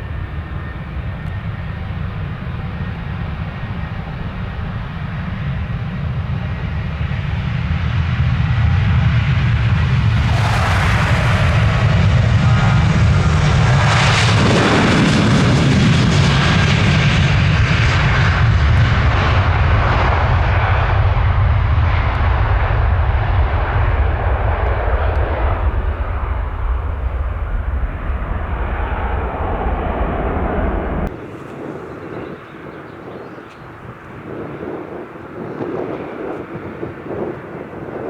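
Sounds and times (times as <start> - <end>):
jet engines rumbling: 0.0 - 38.0.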